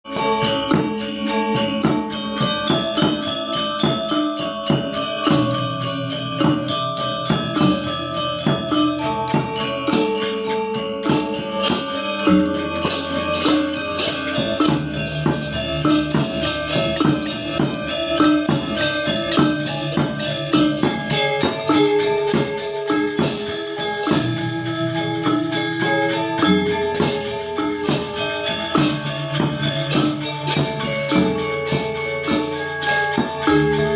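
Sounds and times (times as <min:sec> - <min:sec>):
jingling cymbals: 0:00.1 - 0:33.9
drum strokes: 0:00.4 - 0:33.9
metallophones in rapid patterns: 0:03.5 - 0:33.9.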